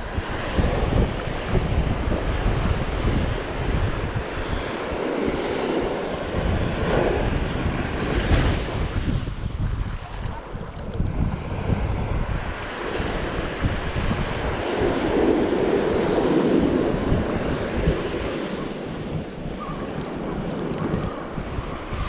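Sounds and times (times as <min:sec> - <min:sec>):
ocean surf on beach: 0:00.0 - 0:22.0
wind buffeting microphone: 0:00.0 - 0:22.0.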